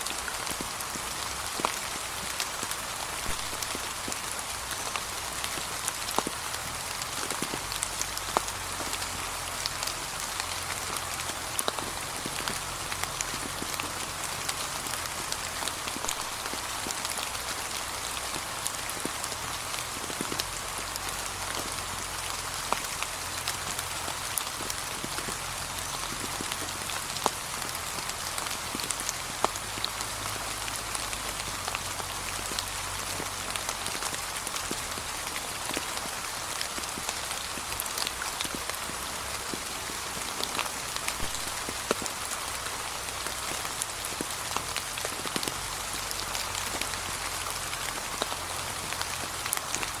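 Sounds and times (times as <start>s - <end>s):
gentle rain hiss: 0.0s - 50.0s.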